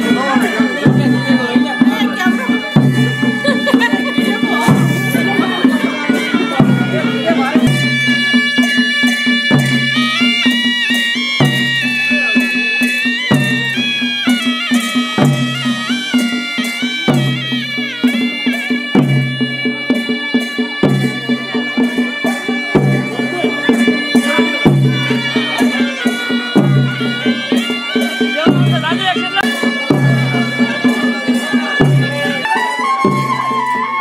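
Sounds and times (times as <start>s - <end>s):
low drum strokes: 0.0s - 33.8s
reed wind instrument melody: 0.0s - 34.0s.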